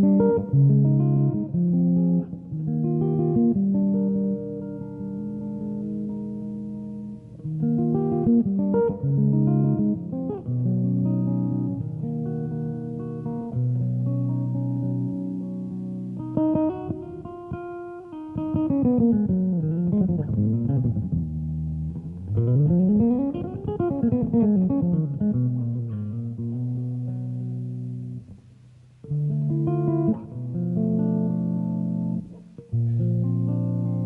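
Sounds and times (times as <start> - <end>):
electric bass guitar chords: 0.0 - 34.0.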